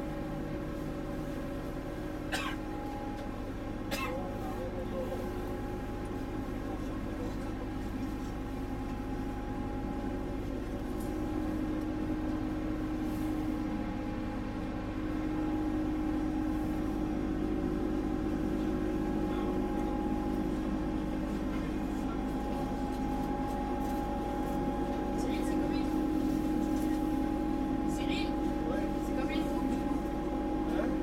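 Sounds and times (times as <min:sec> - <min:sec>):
ship machinery hum: 0:00.0 - 0:31.0.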